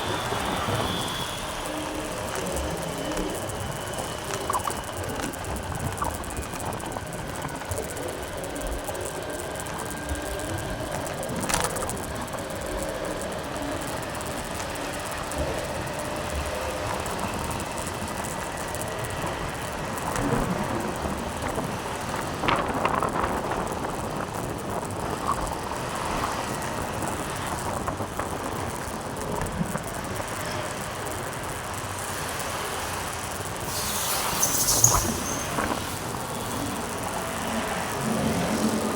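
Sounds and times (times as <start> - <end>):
tyre road noise: 0.0 - 38.9
wind rushing on microphone: 0.0 - 38.9.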